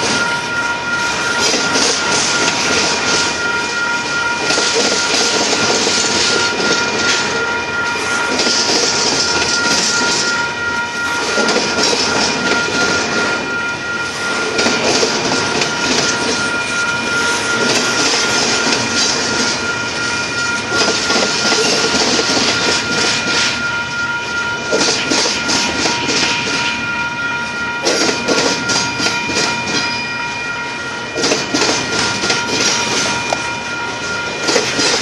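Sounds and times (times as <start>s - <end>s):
freight train wheels on rails: 0.0s - 35.0s
thin high ringing tone: 0.0s - 35.0s.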